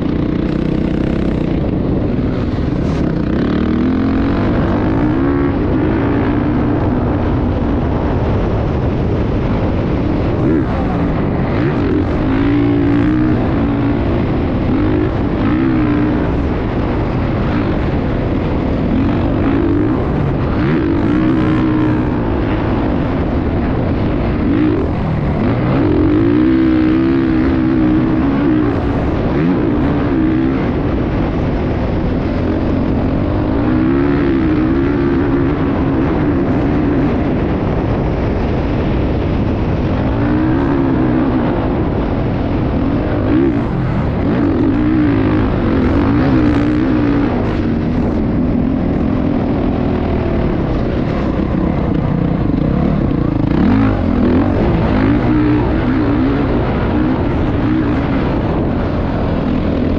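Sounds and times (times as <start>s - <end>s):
motocross motorcycle engine revving: 0.0s - 59.9s.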